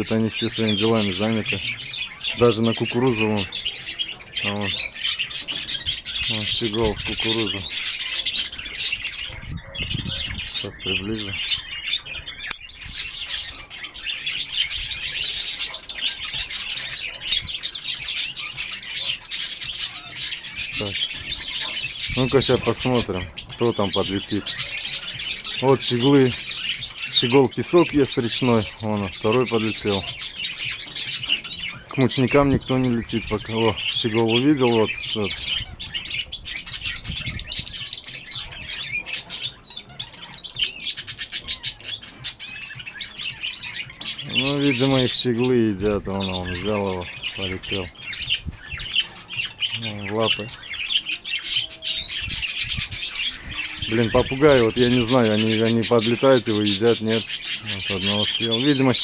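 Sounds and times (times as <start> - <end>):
small birds chirping and chattering: 0.0 - 59.0.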